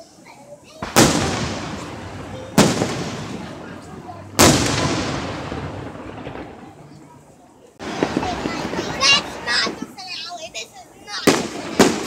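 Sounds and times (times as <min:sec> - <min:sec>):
firework bangs with echo: 0:00.7 - 0:07.2, 0:07.8 - 0:10.2, 0:11.1 - 0:12.0.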